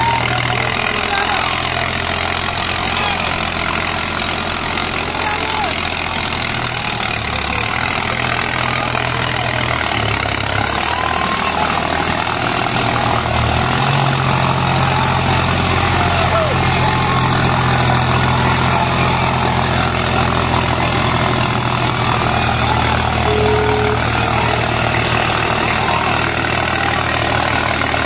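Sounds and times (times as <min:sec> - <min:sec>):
diesel tractor engines running: 0:00.0 - 0:28.0.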